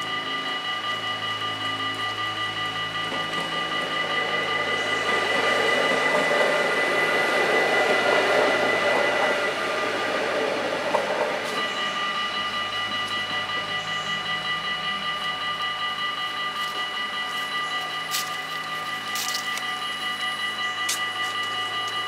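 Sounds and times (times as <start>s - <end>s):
electric train passing: 0.0s - 22.0s
level crossing warning bells: 0.0s - 22.0s.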